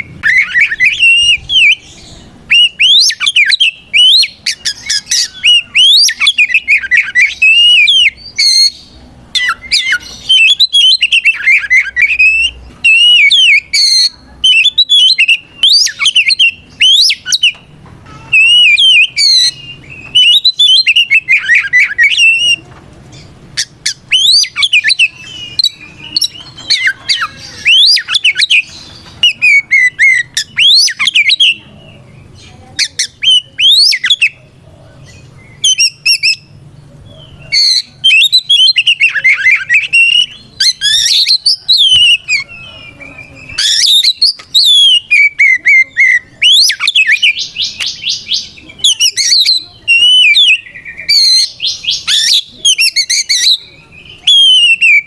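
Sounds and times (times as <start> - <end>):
magpie-robin singing: 0.0 - 55.0.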